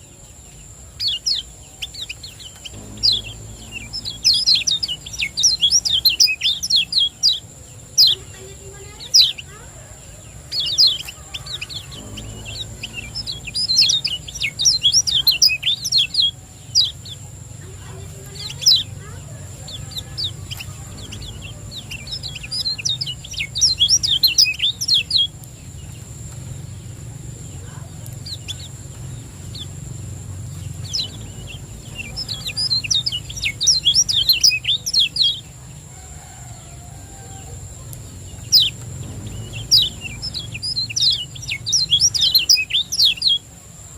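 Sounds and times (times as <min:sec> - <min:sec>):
bird chirping: 0:00.0 - 0:43.9
low steady hum: 0:01.9 - 0:43.6.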